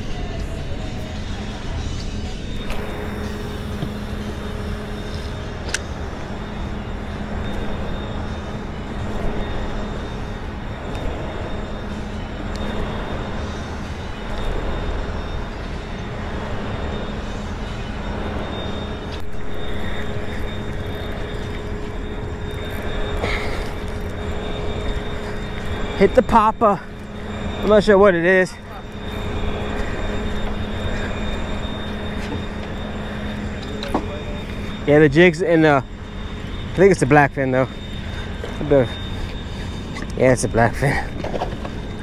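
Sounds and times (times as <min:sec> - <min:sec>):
machinery hum with tones: 0:00.0 - 0:42.0
water noise: 0:06.0 - 0:42.0.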